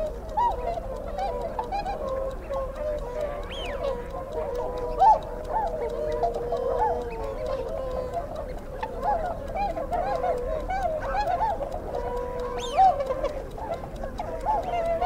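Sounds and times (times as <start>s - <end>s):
faint ticking: 0.0s - 15.0s.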